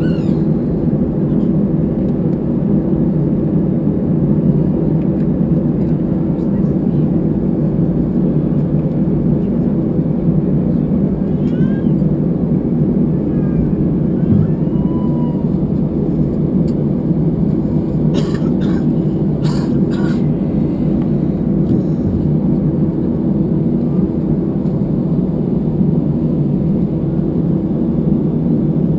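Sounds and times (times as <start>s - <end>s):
airliner cabin hum and rumble: 0.0s - 28.9s.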